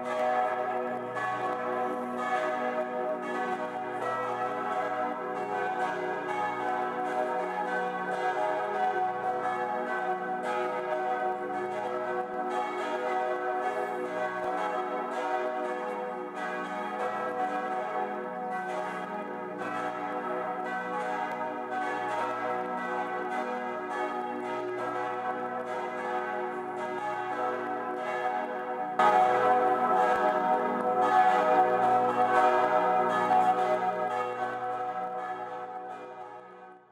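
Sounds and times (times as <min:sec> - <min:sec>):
church bells ringing in a peal: 0:00.0 - 0:36.9.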